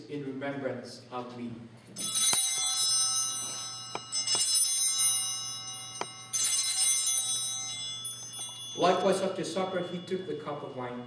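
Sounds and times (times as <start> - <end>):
altar bells ringing: 2.0 - 11.0.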